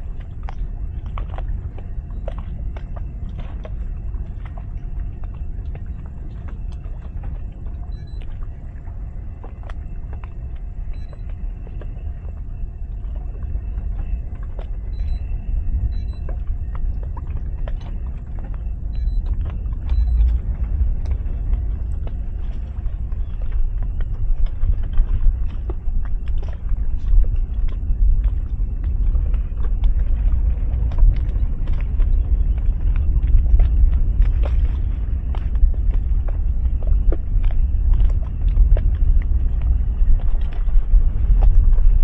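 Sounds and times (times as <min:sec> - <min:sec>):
outboard motors rumbling: 0:00.0 - 0:42.0
wind buffeting microphone: 0:00.0 - 0:42.0.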